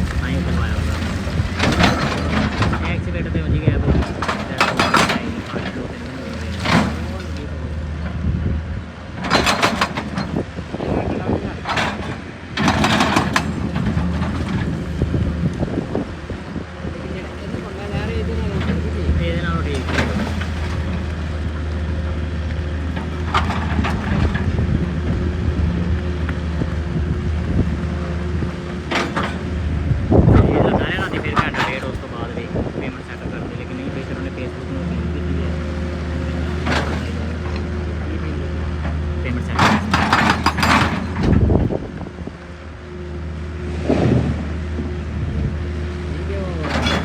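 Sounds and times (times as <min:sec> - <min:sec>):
engine drone: 0:00.0 - 0:47.0.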